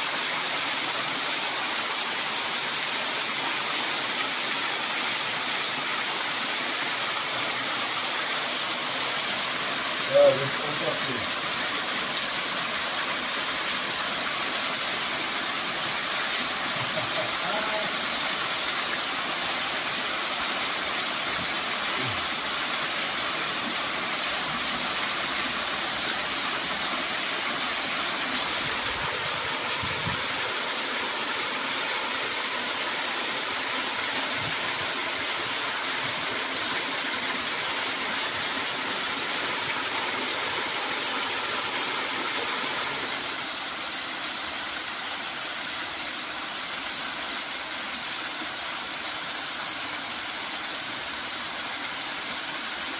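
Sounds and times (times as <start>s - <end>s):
small waterfall splashing: 0.0s - 52.9s.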